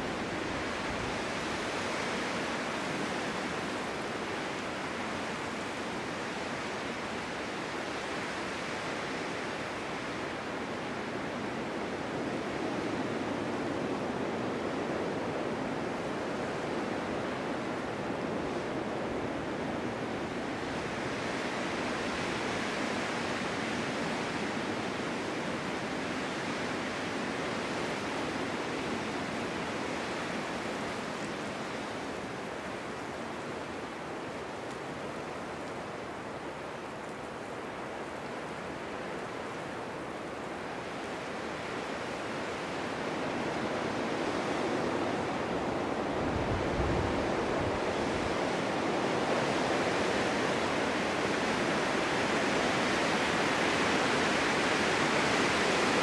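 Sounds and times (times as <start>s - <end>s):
snowstorm wind blowing: 0.0s - 56.0s.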